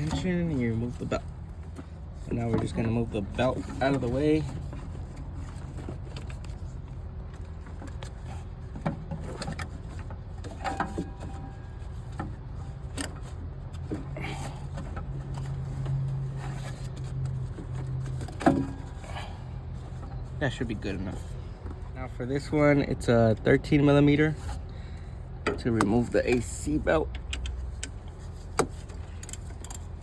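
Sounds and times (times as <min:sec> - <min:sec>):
light knocks and scrapes: 0:00.0 - 0:22.0, 0:24.2 - 0:30.0.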